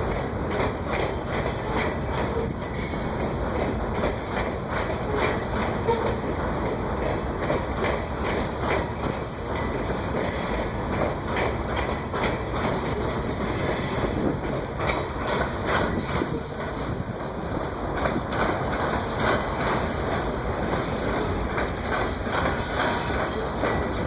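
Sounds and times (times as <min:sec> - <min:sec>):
train wheels clicking over rail joints: 0:00.0 - 0:24.0.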